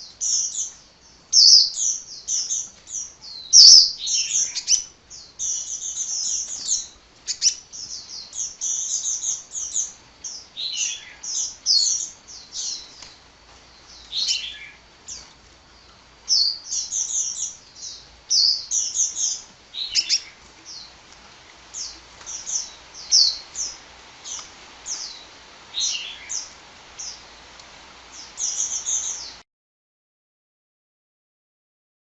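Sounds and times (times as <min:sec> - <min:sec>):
sunbird high thin chirps: 0:00.0 - 0:13.1, 0:13.8 - 0:15.2, 0:16.3 - 0:20.9, 0:21.7 - 0:27.2, 0:28.1 - 0:29.4
faint hiss: 0:00.0 - 0:29.4.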